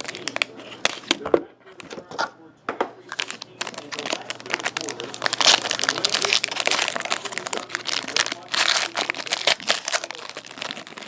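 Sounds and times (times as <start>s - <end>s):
plastic packaging crinkling: 0.0s - 1.2s, 3.0s - 11.0s.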